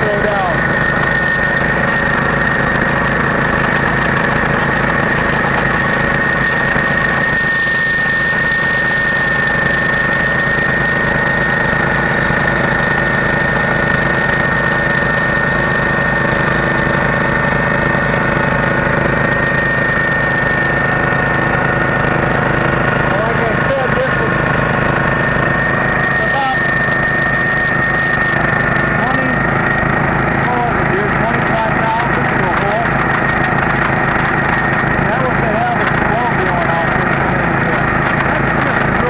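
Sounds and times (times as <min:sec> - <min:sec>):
small engine running: 0:00.0 - 0:39.0
steady high whine: 0:00.0 - 0:39.0.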